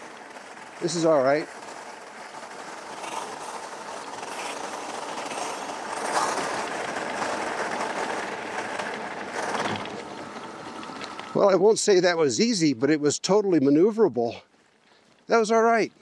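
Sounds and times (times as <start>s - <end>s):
bike tires crunching on gravel: 0.0s - 16.0s.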